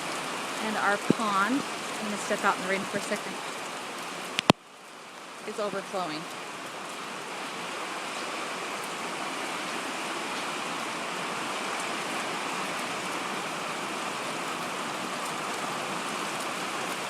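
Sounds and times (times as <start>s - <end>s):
running water rushing: 0.0s - 17.0s
steady rain falling: 0.0s - 17.0s.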